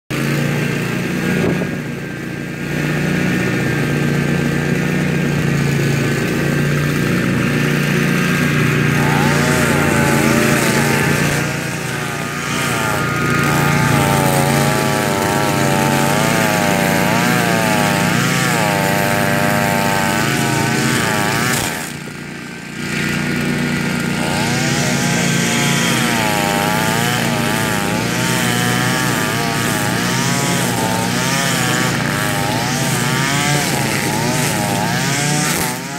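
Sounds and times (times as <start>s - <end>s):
string trimmer cutting grass: 0.1s - 35.9s.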